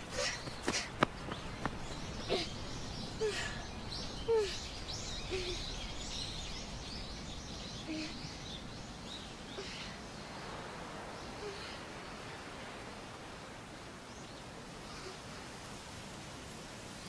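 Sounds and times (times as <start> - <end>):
small birds chirping: 0.0 - 17.0
steady background hiss: 0.0 - 17.0.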